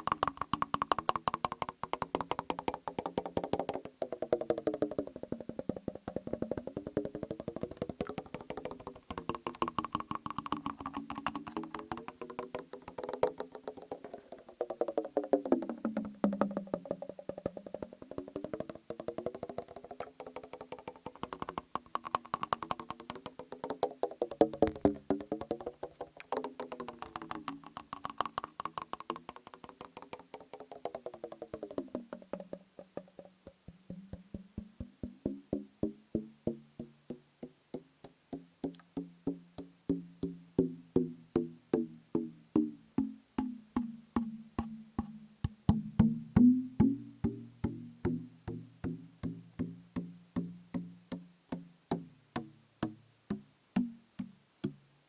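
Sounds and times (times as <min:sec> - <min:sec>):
fingertips tapping plastic bottle: 0:00.0 - 0:54.8.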